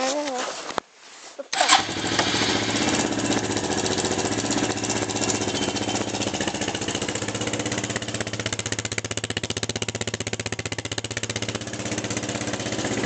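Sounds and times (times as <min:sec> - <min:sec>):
quad bike engine idling: 0:01.5 - 0:13.0.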